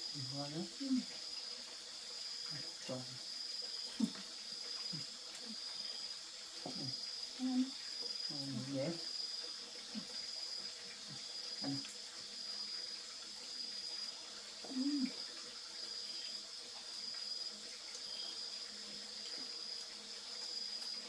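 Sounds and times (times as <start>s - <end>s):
crickets chirring: 0.0s - 21.0s
even hiss: 0.0s - 21.0s.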